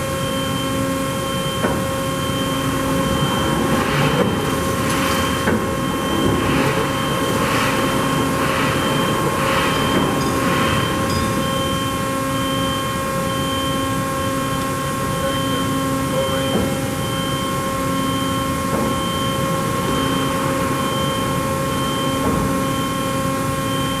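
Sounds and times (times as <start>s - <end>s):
machine hum with held tones: 0.0s - 24.0s.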